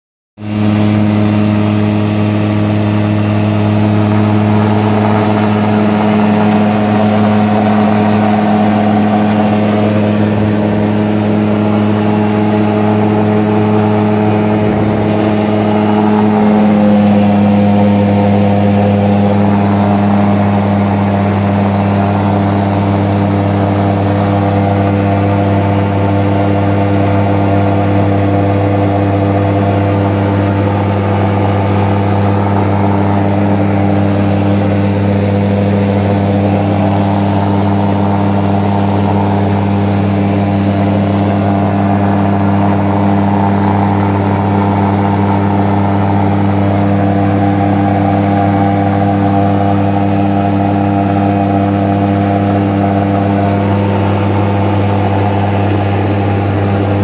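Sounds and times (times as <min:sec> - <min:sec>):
aircraft engine drone: 0:00.4 - 0:57.0.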